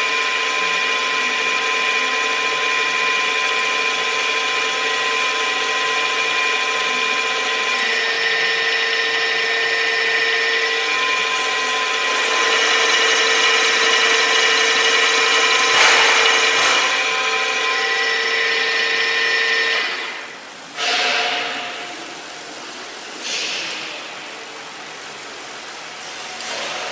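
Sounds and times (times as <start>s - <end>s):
milling machine spindle whine: 0.0s - 23.4s.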